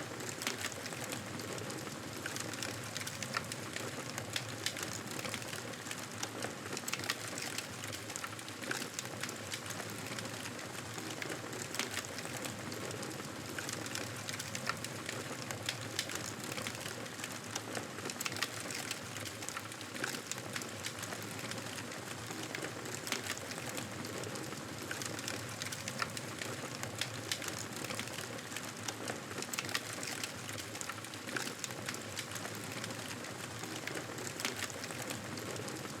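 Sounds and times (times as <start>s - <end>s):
wood fire crackling: 0.1s - 36.0s.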